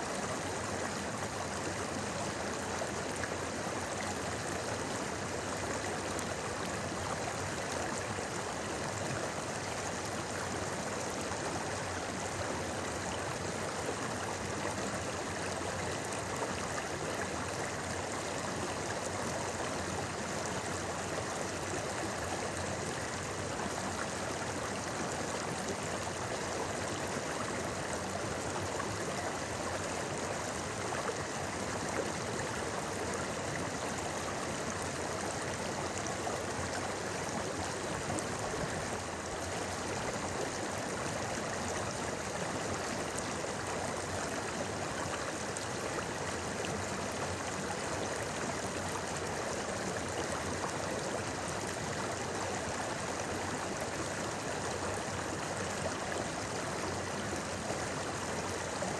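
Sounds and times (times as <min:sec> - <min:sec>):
river babbling over stones: 0:00.1 - 0:58.9.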